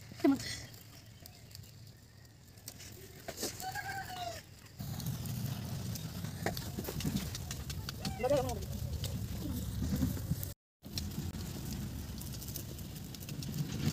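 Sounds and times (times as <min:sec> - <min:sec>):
wood fire crackling and popping: 0:00.0 - 0:13.9.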